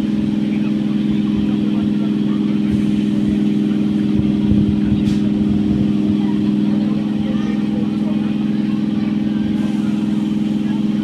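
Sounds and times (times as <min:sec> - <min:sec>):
electric train hum: 0:00.0 - 0:11.0
train coach rumble: 0:00.0 - 0:11.0.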